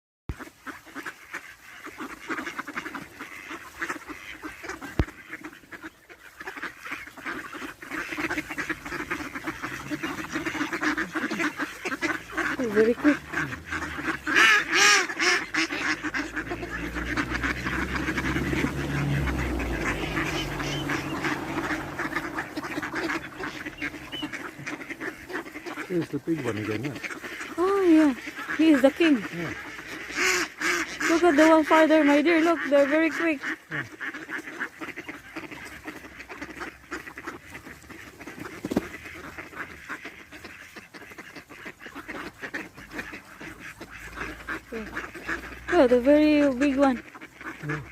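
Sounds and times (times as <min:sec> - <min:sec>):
ducks quacking: 0:00.3 - 0:47.9.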